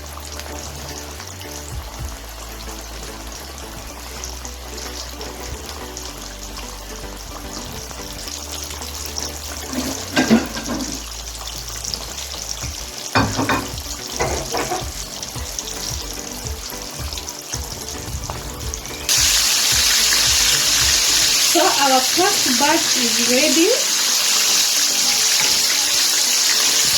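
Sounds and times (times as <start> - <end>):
deep-frying sizzle in oil: 0.0 - 26.9.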